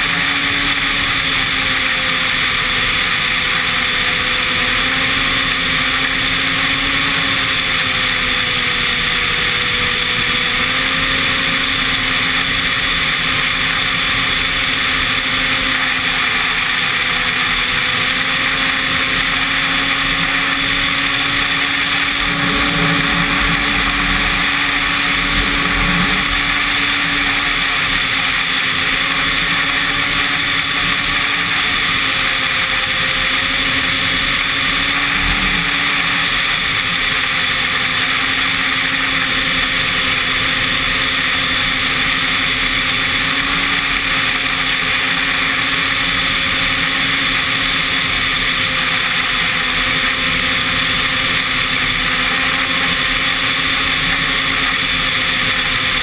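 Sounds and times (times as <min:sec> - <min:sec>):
continuous rushing noise: 0:00.0 - 0:56.0
snowmobile engine running: 0:00.0 - 0:56.0.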